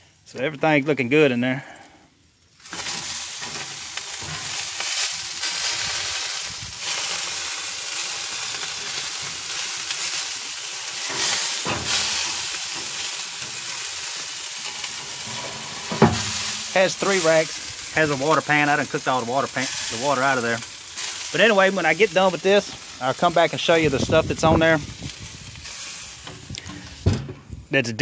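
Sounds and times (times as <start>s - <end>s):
meat sizzling in smoker: 0.0s - 27.1s.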